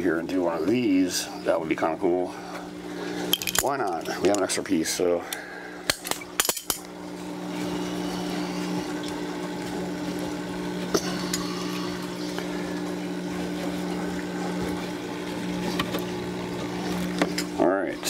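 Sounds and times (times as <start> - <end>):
water pump humming: 0.0 - 18.0.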